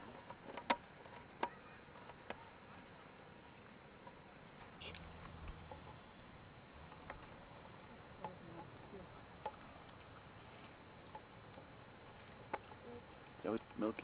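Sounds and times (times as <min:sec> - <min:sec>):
insects chirring in grass: 0:00.0 - 0:14.0.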